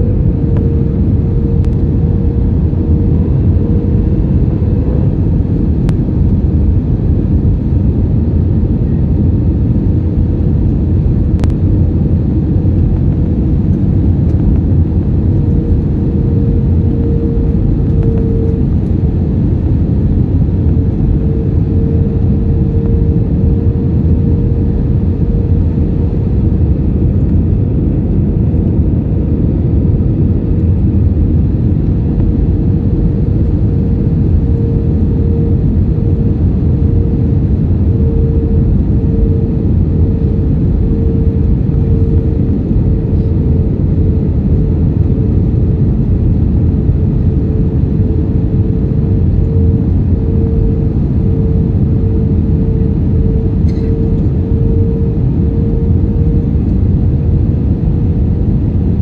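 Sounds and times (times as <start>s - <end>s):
airliner engine and airflow rumble: 0.0s - 59.0s
faint steady hum: 0.0s - 59.0s.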